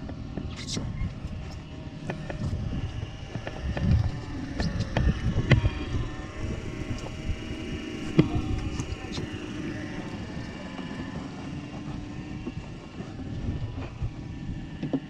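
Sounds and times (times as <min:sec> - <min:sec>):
boat engine running: 0:00.0 - 0:15.0
wind on microphone: 0:00.0 - 0:15.0.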